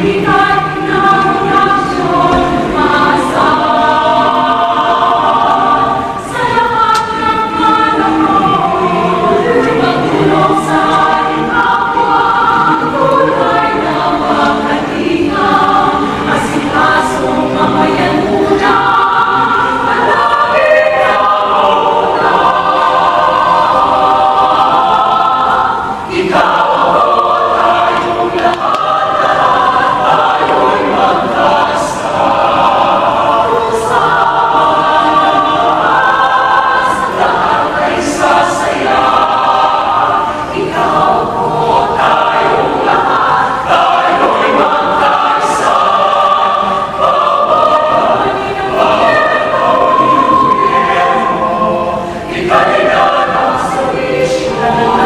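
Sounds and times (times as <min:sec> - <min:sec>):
large choir singing in harmony: 0:00.0 - 0:55.0.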